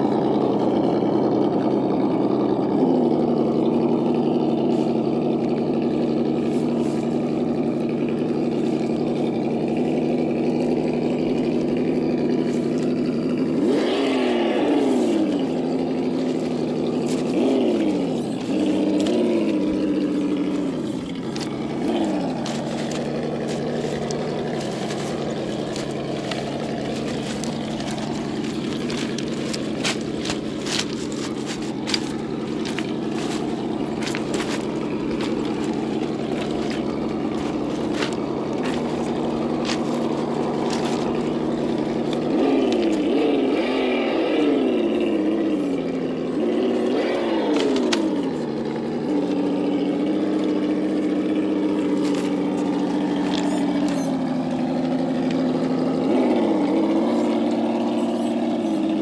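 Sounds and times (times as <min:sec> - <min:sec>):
simulated engine idle through speaker: 0:00.0 - 0:59.0.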